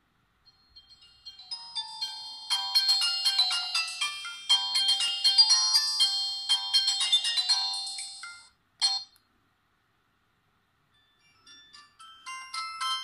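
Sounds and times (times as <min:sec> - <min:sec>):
polyphonic phone ringtone: 0:00.5 - 0:09.1, 0:11.0 - 0:13.0.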